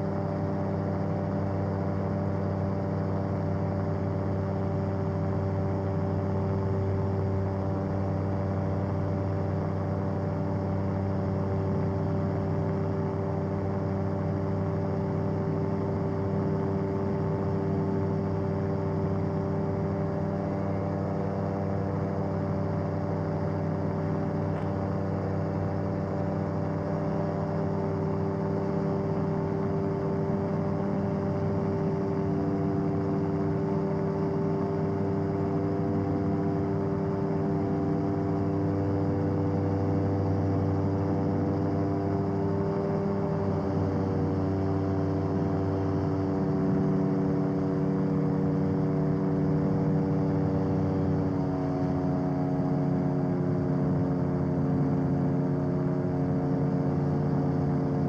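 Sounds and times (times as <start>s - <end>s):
aircraft engine and propeller droning: 0.0s - 58.0s.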